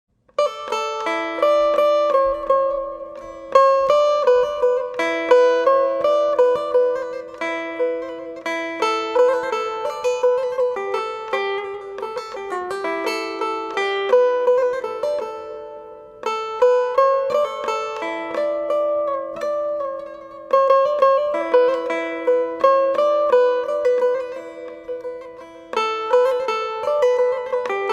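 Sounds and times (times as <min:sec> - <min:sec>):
plucked string instrument melody: 0:00.2 - 0:27.9.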